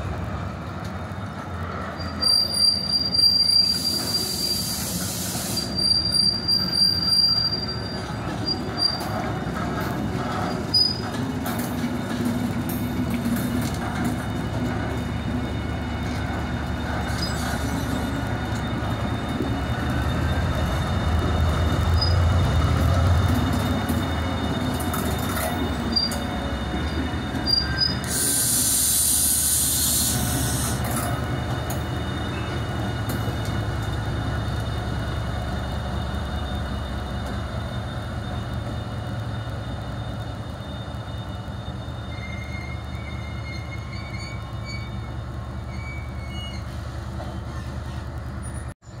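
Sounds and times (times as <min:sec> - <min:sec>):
locomotive engines rumbling: 0:00.0 - 0:49.0
train wheels running: 0:00.0 - 0:49.0.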